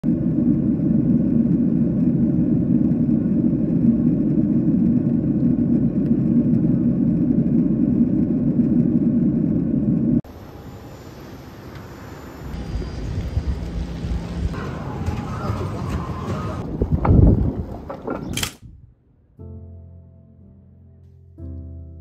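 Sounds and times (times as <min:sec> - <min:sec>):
moving vehicle rumble: 0:00.1 - 0:18.9.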